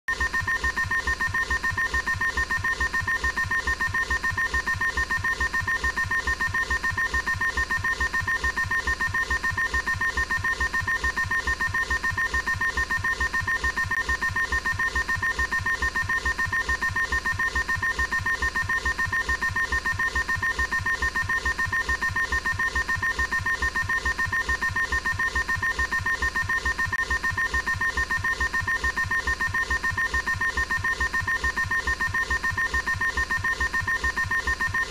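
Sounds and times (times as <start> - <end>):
pulsing phone alarm tone: 0.1 - 34.9.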